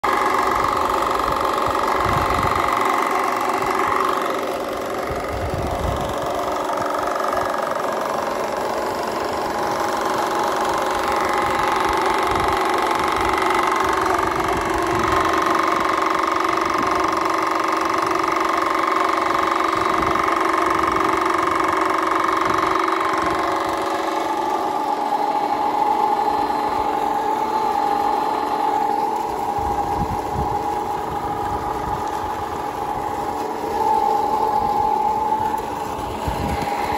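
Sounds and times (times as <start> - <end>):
electric pump motor whining: 0.0 - 36.9
water gushing from pipe: 0.0 - 36.9.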